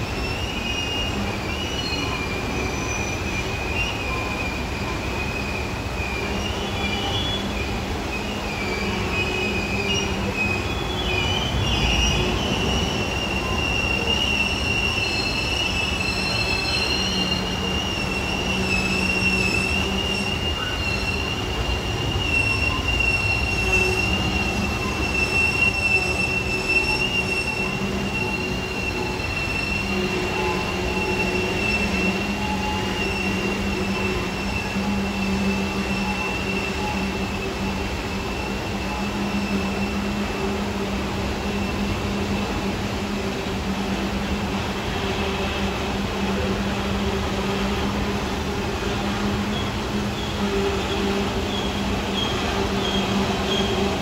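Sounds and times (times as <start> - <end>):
train cars rumbling: 0.0 - 54.0
train wheels squealing: 0.0 - 54.0.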